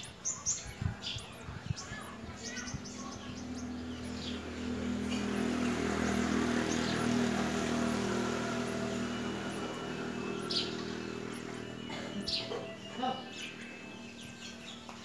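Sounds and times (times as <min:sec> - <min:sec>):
high bird chirps: 0:00.0 - 0:15.0
low mechanical hum: 0:00.0 - 0:15.0.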